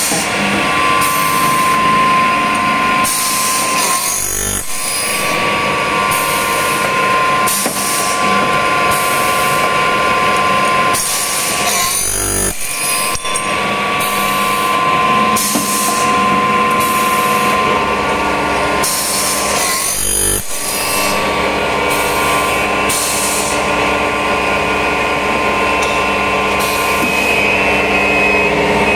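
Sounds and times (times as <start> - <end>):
high-pitched motor whine: 0.0 - 28.9
machine cutting metal: 0.0 - 28.9.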